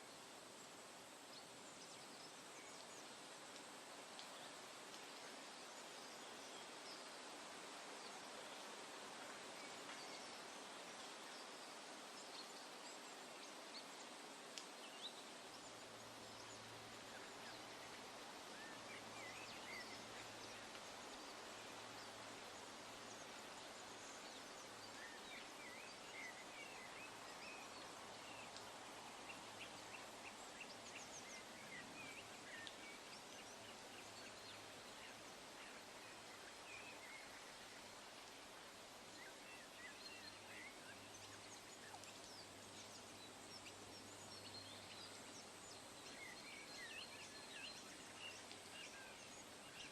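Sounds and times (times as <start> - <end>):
woodland background hiss: 0.0 - 49.9.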